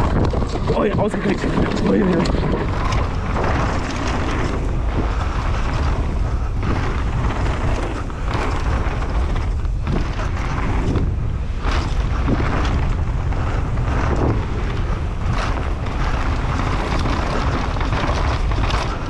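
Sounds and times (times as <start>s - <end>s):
bike clicks and rattles: 0.0s - 19.0s
tyre noise on dirt: 0.0s - 19.0s
wind buffeting microphone: 0.0s - 19.0s.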